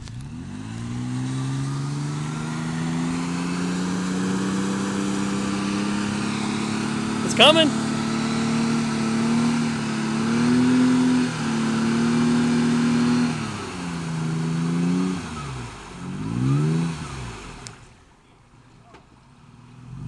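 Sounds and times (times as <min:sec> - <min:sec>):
truck engine under load: 0:00.0 - 0:20.0.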